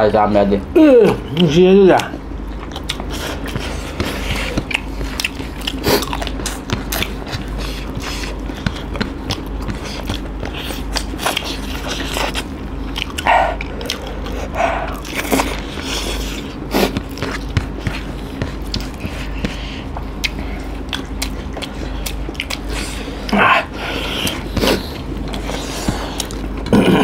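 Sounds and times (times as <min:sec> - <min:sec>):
people chewing and smacking: 0:01.1 - 0:27.0.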